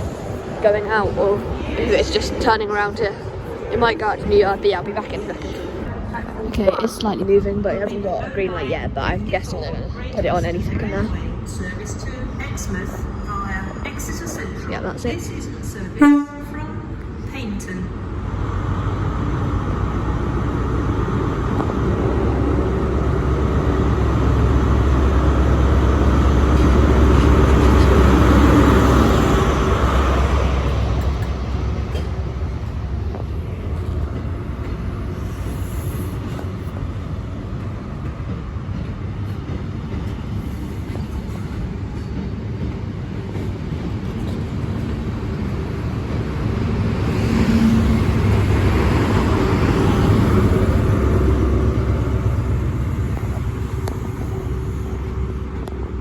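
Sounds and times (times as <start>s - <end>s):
diesel train rumbling: 0.0s - 56.0s.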